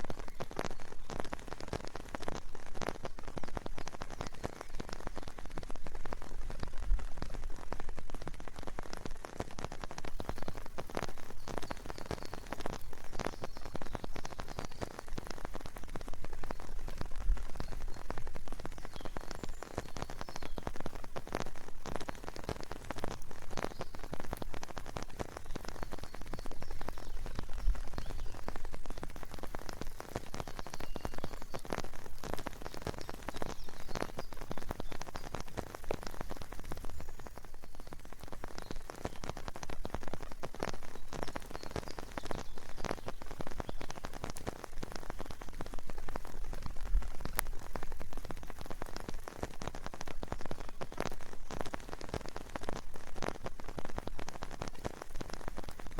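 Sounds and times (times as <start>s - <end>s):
rain drops tapping a surface: 0.0s - 55.9s.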